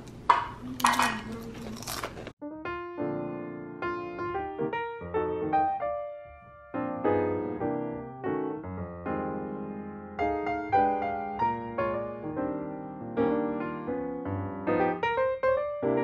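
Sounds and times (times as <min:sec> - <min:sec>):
piano music: 0:02.4 - 0:16.0.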